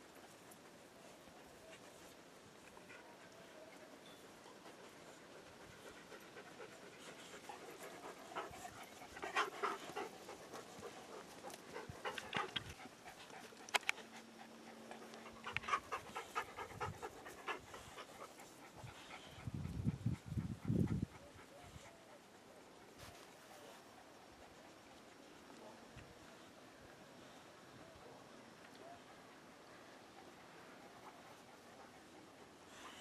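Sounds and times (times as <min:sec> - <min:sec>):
dogs panting: 0:00.0 - 0:25.7, 0:28.8 - 0:33.0.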